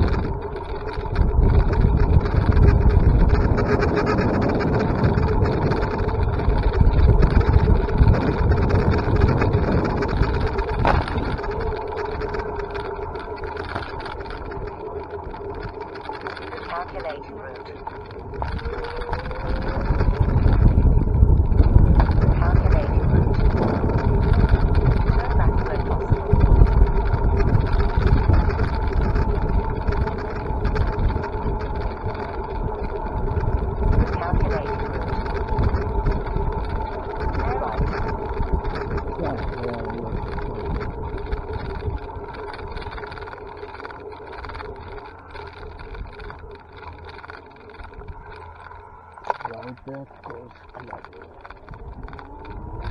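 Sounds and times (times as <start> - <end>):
e-bike low rumble and hum: 0.0 - 52.9
steady whine: 0.0 - 52.9
wind buffeting microphone: 0.0 - 52.9.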